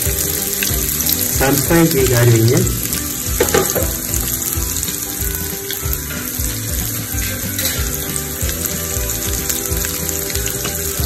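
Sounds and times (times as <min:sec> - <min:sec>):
background music with a beat: 0:00.0 - 0:11.0
shallots and garlic sizzling in oil: 0:00.0 - 0:11.0.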